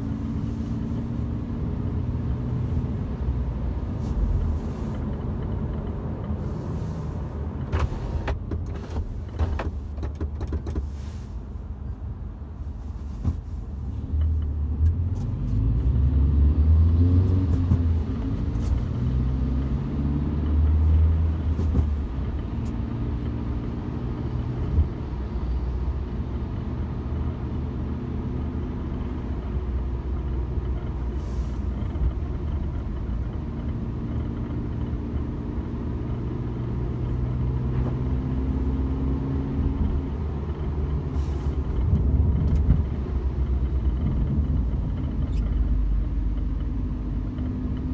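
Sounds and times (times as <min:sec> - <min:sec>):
car engine while driving: 0:00.0 - 0:47.9
road noise: 0:00.0 - 0:47.9.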